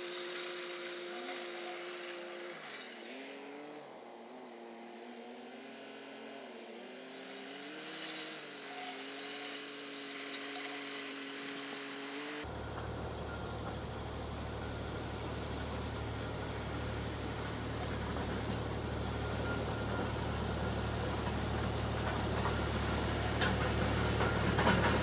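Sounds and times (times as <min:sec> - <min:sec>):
distant tractor engine running: 0:00.0 - 0:04.4, 0:07.0 - 0:25.0.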